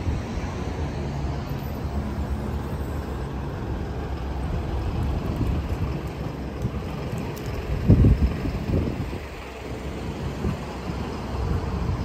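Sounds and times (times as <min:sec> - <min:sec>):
passing traffic rumble: 0:00.0 - 0:12.0.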